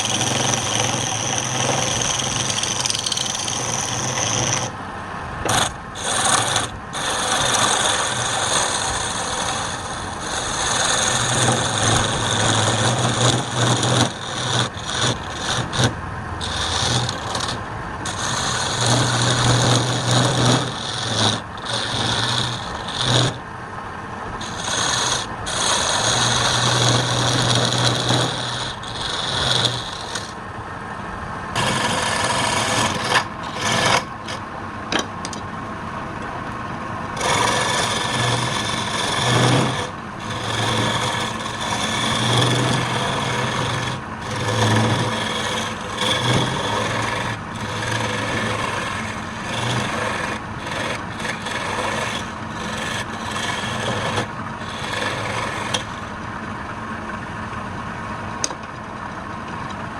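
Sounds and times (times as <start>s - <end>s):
tool rasping on spinning wood: 0.0s - 23.5s, 24.4s - 30.4s, 31.5s - 34.6s, 37.1s - 56.4s
low motor hum: 0.0s - 59.9s.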